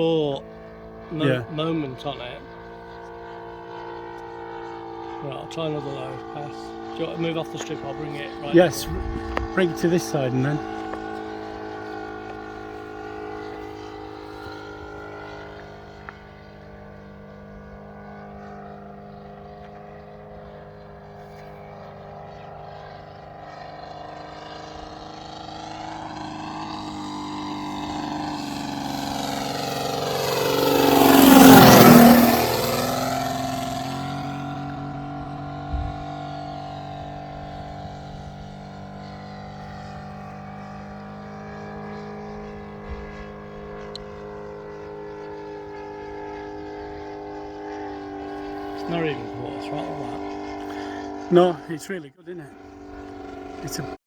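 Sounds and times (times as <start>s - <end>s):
model aircraft engine flying past: 0.0s - 54.0s.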